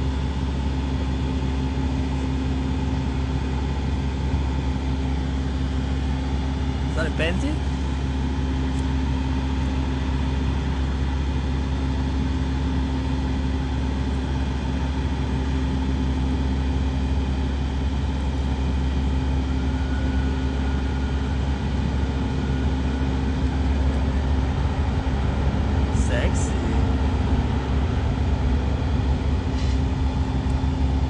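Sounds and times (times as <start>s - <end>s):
motor vehicle engine running: 5.0s - 31.0s.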